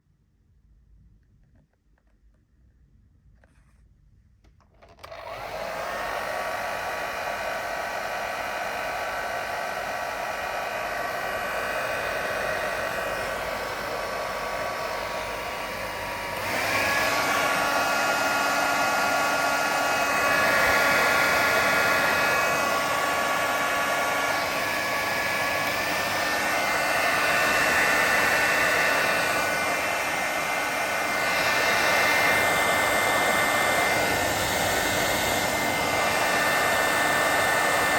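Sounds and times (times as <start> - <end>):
hair dryer blowing: 4.8 - 37.9.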